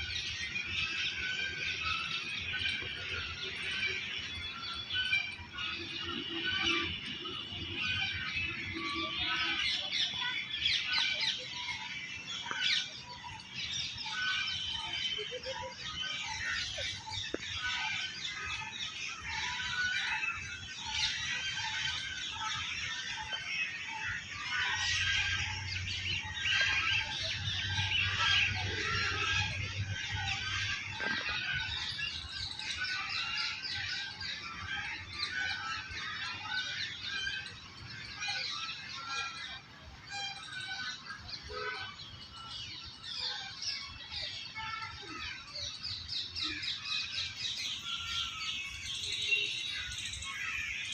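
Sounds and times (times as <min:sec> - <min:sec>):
birds chirping chorus: 0:00.0 - 0:50.9
repeated low bird call: 0:00.0 - 0:50.9.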